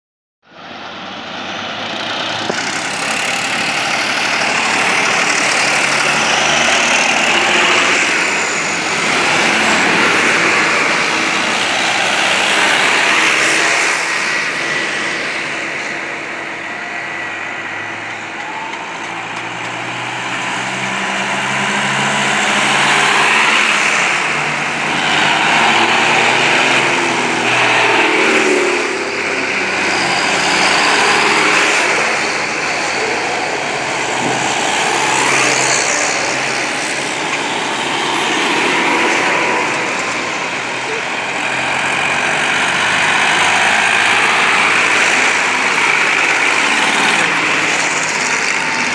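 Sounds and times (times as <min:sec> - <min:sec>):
nearby tractor diesel engine: 0:00.4 - 0:48.9
vehicle procession engines: 0:00.4 - 0:48.9.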